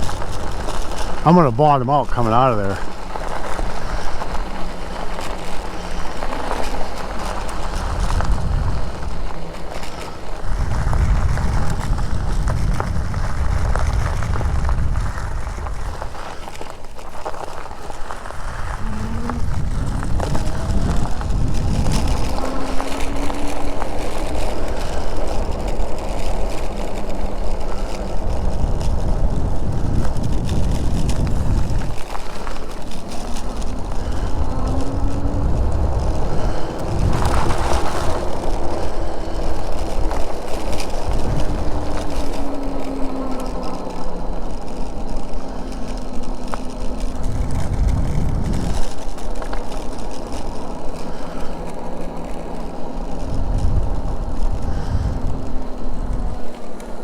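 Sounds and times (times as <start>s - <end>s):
wind rumble on microphone: 0.0s - 57.0s
electric motor whine: 2.2s - 57.0s.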